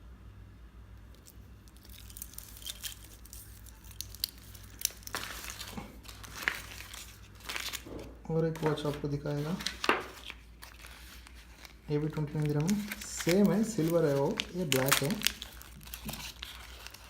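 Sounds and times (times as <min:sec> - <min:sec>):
packaging crinkling and rustling: 0:01.1 - 0:17.0.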